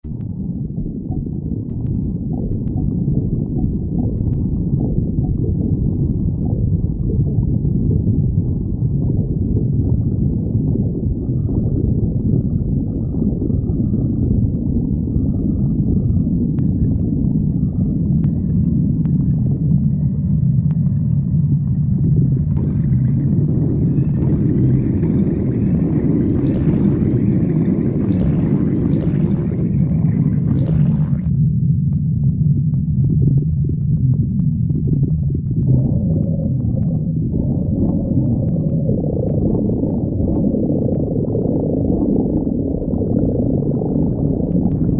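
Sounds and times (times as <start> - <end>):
stomach growling and gurgling: 0.0 - 44.9.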